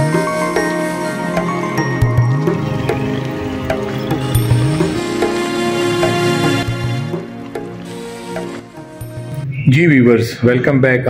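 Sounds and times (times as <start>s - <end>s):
instrumental background music: 0.0s - 10.1s.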